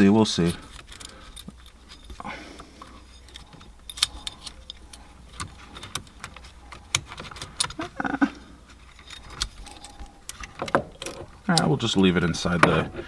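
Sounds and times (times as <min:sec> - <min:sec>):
plastic parts clicking and rattling: 0:00.0 - 0:08.0, 0:08.6 - 0:13.0.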